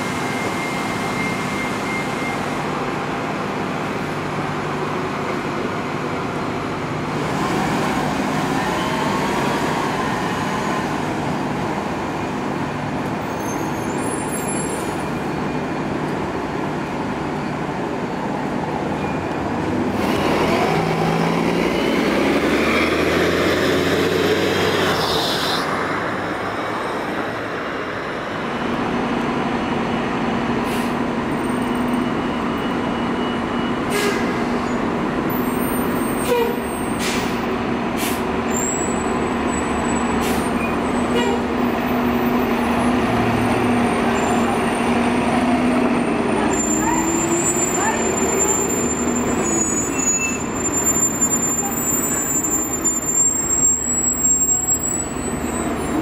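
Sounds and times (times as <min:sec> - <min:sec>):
bus accelerating past: 0:00.0 - 0:56.0.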